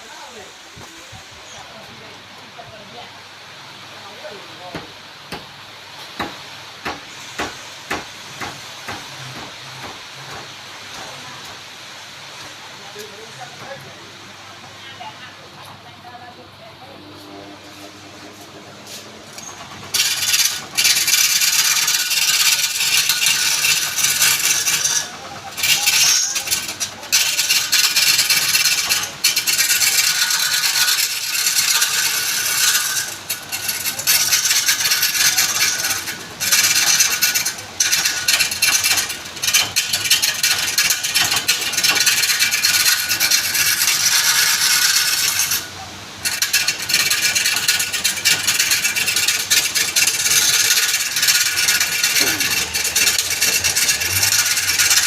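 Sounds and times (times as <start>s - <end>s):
woodturning tool scraping wood: 6.2s - 15.8s, 16.9s - 55.0s.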